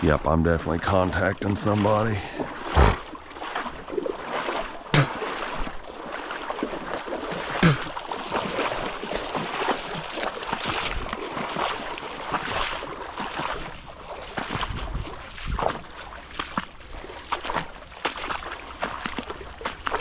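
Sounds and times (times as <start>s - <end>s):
feet wading through water: 0.0s - 20.0s
dog splashing: 0.9s - 20.0s.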